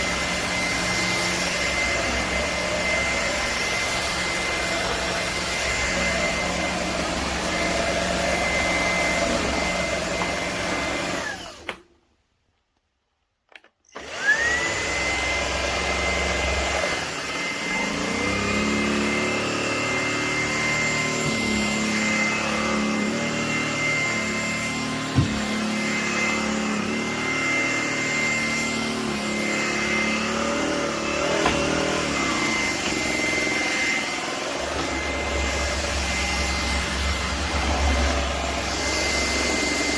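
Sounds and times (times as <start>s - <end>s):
stick vacuum whining: 0.0s - 12.0s, 13.5s - 39.9s.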